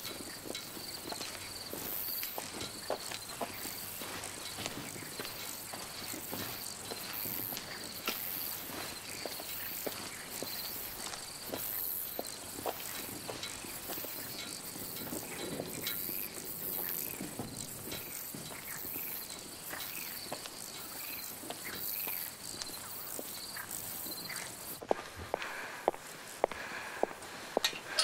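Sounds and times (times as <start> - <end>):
footsteps crunching on stony ground: 0.0 - 28.0
insects chirping: 0.0 - 28.0.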